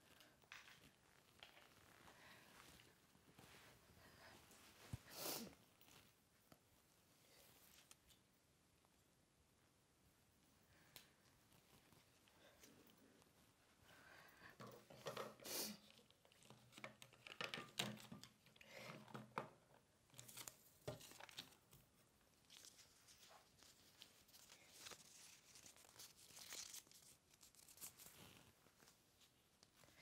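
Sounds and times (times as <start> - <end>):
faint rustling and crinkling: 0.0 - 9.1, 10.1 - 30.0.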